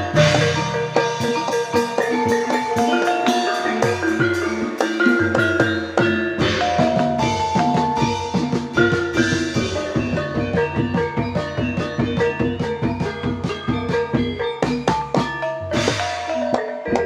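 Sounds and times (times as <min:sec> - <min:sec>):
drum strokes: 0:00.0 - 0:17.0
metallophones ringing: 0:00.0 - 0:17.0.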